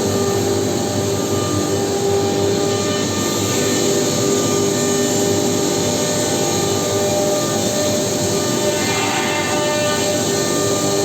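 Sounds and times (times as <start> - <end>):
workshop machinery drone: 0.0 - 11.0.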